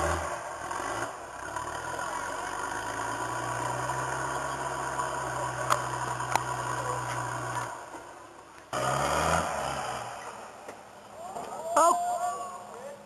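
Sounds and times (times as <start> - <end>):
engine running at low revs: 0.0 - 11.2.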